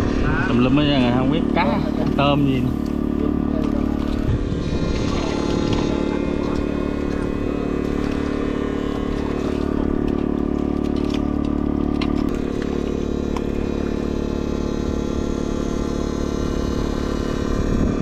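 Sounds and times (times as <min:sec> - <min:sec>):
electrofishing machine buzzing: 0:00.0 - 0:18.0.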